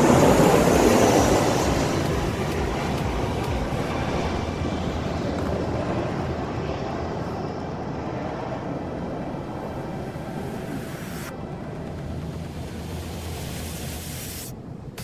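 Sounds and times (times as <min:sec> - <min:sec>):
jet engine rush: 0:00.0 - 0:15.0.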